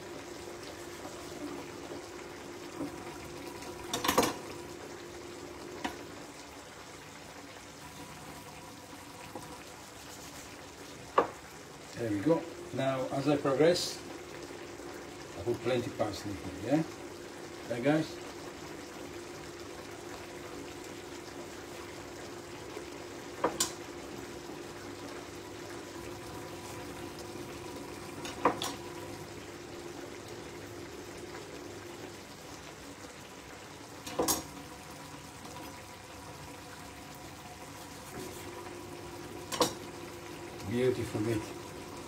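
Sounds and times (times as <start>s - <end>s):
pan simmering and bubbling: 0.0s - 42.0s.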